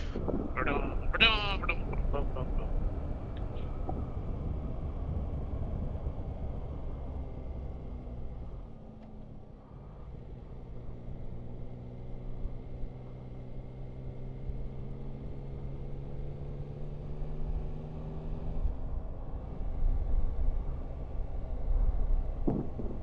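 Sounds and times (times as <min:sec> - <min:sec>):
motorcycle engine running: 0:00.0 - 0:23.0
wind and road rumble: 0:00.0 - 0:23.0.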